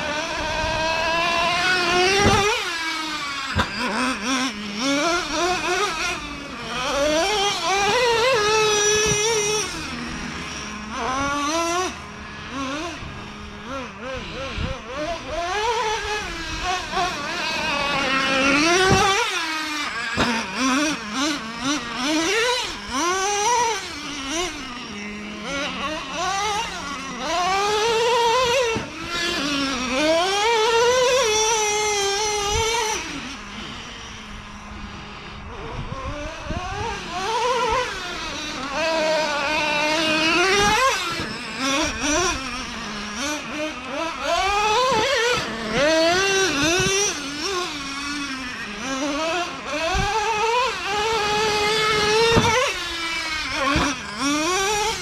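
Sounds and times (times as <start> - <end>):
nitro engine revving: 0.0 - 55.0.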